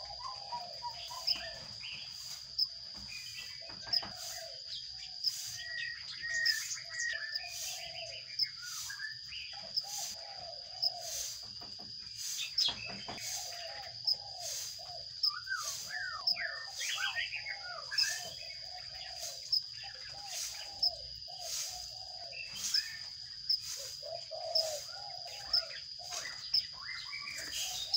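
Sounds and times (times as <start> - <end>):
sparrows chirping: 0.0 - 27.9.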